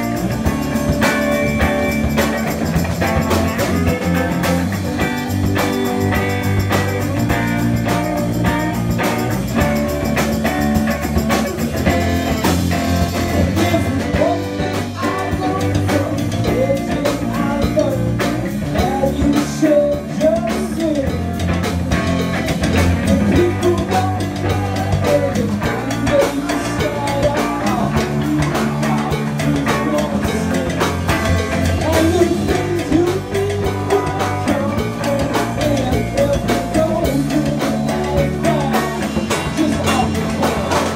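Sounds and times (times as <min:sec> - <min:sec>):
bass guitar: 0:00.0 - 0:40.9
drum kit beat: 0:00.0 - 0:40.9
electric guitar: 0:00.0 - 0:40.9
person singing: 0:00.0 - 0:40.9.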